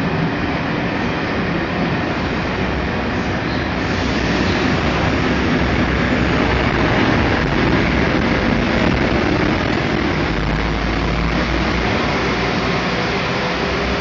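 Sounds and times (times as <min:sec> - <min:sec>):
diesel train engine drone: 0:00.0 - 0:14.0.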